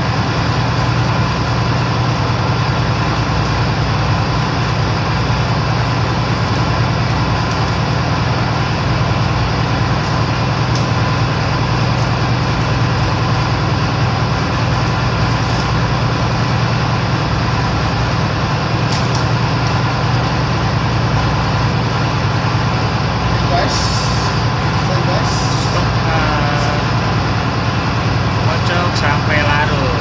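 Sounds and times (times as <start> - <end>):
ship machinery droning: 0.0 - 30.0.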